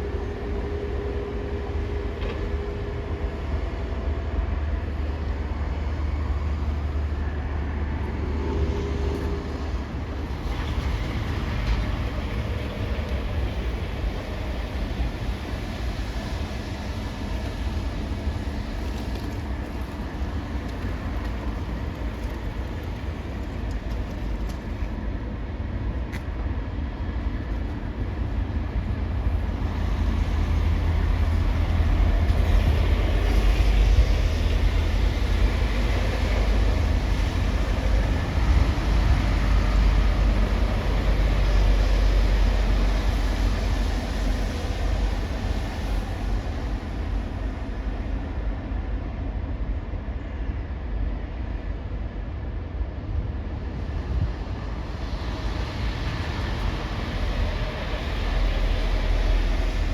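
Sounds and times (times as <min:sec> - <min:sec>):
heavy vehicle engine rumble: 0:00.0 - 0:49.5, 0:52.8 - 0:59.9.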